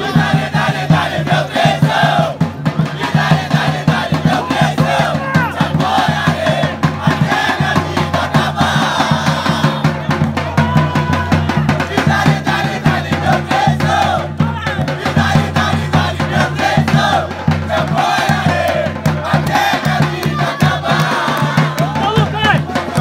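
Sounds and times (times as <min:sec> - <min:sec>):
crowd chanting and singing: 0:00.0 - 0:23.0
fast steady drumming: 0:00.0 - 0:23.0.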